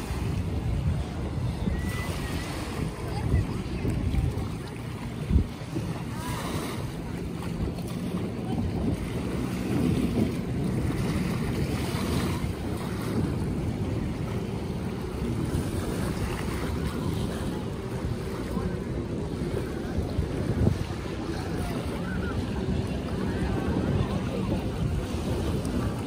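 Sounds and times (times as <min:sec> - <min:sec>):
small waves breaking on shore: 0:00.0 - 0:26.0
wind buffeting microphone: 0:00.0 - 0:26.0.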